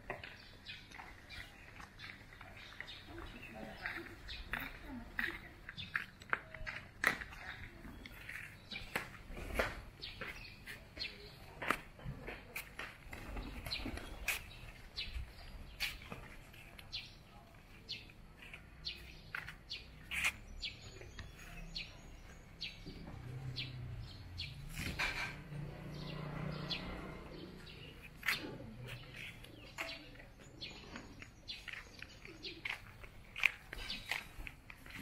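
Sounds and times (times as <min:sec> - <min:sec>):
birds chirping: 0:00.0 - 0:12.4, 0:13.1 - 0:35.0.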